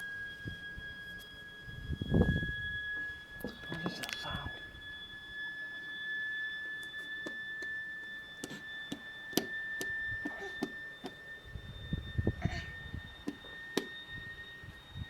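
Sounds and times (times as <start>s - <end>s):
steady high-pitched tone: 0.0s - 15.0s.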